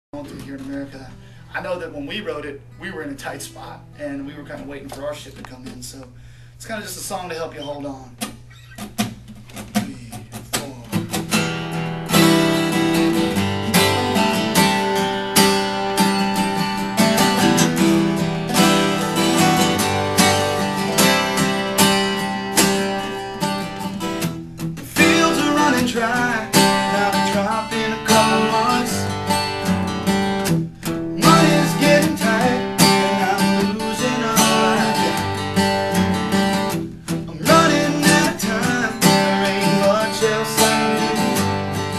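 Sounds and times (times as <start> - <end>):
strummed acoustic guitar: 0.2 - 41.9.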